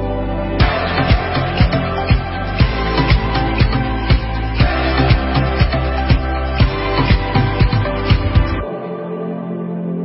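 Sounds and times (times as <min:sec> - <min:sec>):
sustained held chords: 0:00.0 - 0:10.0
steady drum beat: 0:00.6 - 0:08.6.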